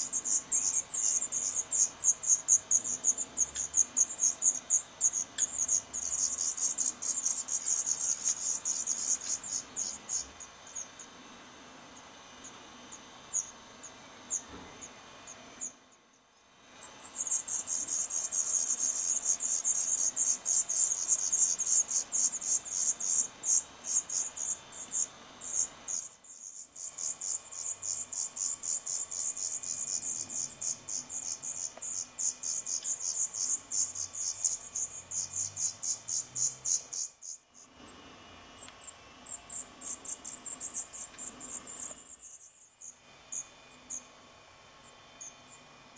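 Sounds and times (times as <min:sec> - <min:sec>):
nestlings begging calls: 0:00.0 - 0:11.1, 0:13.3 - 0:15.8, 0:16.8 - 0:37.7, 0:38.6 - 0:44.1.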